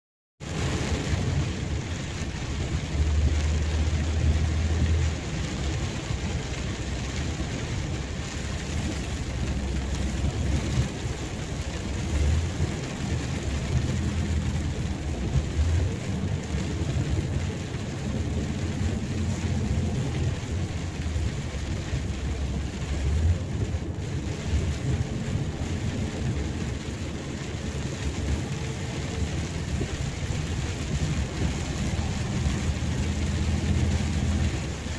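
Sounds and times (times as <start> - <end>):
low rumbles: 0.4 - 34.9
steady rain: 0.4 - 34.9.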